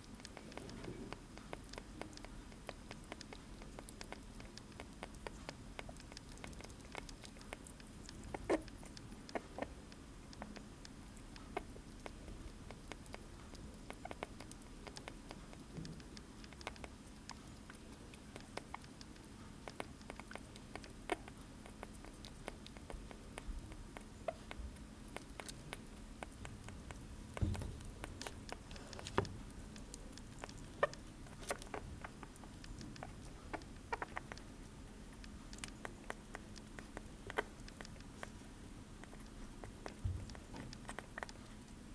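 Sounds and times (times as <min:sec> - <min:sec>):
small animal chewing: 0:00.0 - 0:41.9.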